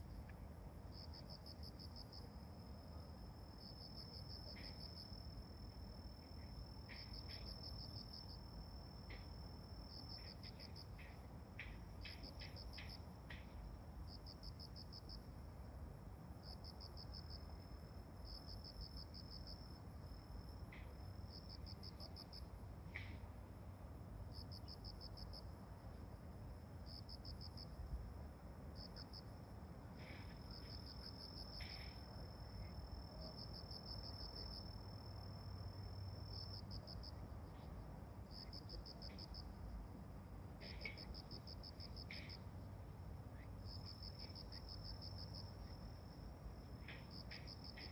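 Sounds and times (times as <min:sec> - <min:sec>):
insects chirping: 0:00.0 - 0:47.9.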